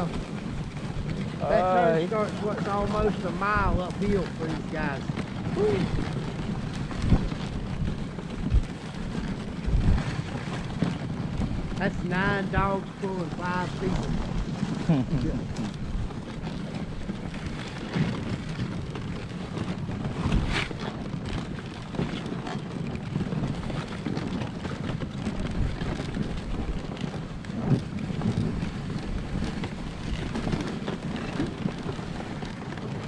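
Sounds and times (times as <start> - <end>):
sled rumbling and rattling: 0.0 - 33.0
wind buffeting microphone: 0.0 - 33.0.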